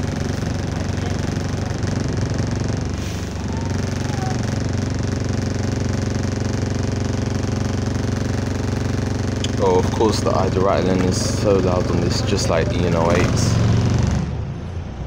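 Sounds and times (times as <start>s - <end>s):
bus engine idling with rattle: 0.0s - 15.0s.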